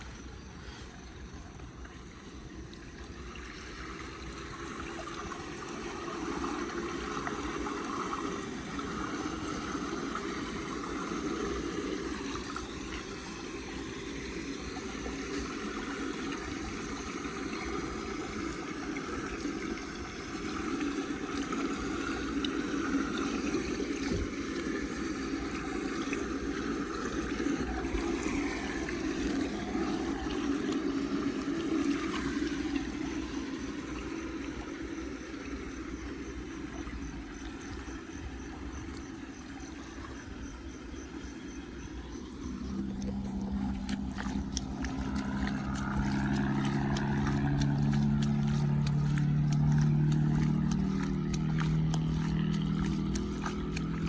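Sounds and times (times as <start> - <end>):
water gurgling into storm drain: 0.0 - 54.0.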